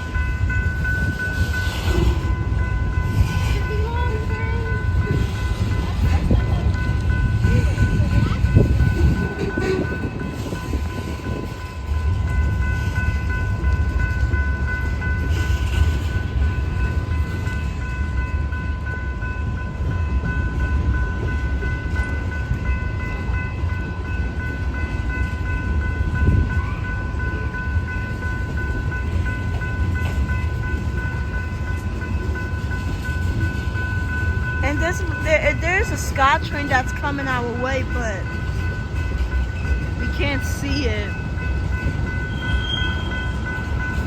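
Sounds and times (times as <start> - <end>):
freight train rumbling: 0.0 - 44.0.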